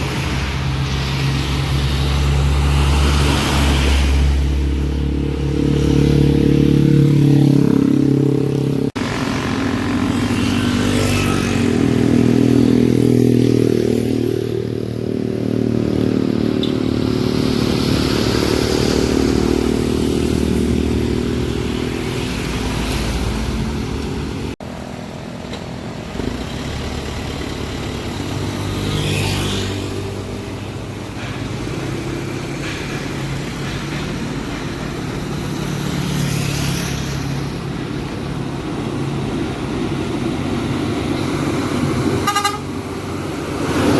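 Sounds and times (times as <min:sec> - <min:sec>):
truck diesel engines labouring: 0:00.0 - 0:43.9.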